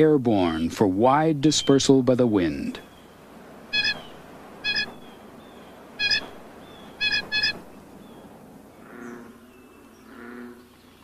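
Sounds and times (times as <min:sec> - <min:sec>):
honking bird calls: 0:01.6 - 0:10.8
softer lower bird call: 0:01.6 - 0:10.8.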